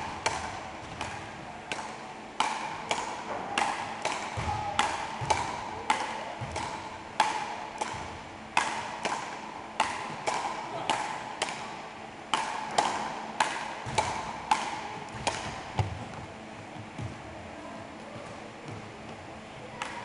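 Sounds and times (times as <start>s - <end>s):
ball struck by wooden paddles: 0.0s - 17.3s, 18.1s - 20.0s.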